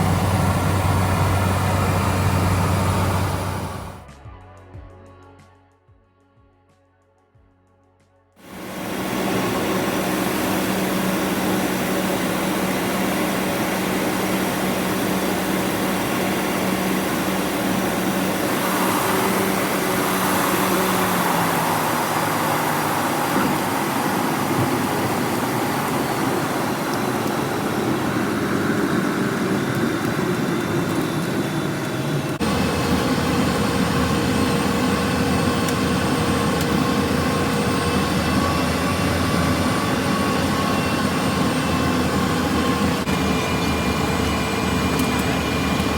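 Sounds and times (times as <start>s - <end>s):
propeller aircraft engine drone: 0.0s - 4.2s, 8.4s - 45.9s.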